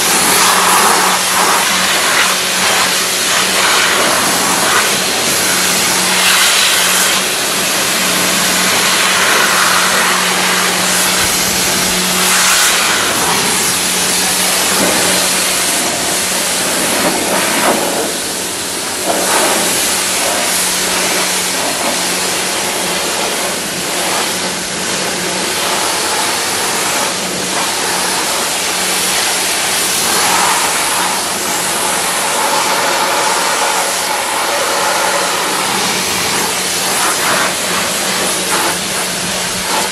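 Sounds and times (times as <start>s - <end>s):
motor and pump humming: 0.0s - 39.9s
pressure washer water jet hissing: 0.0s - 39.9s.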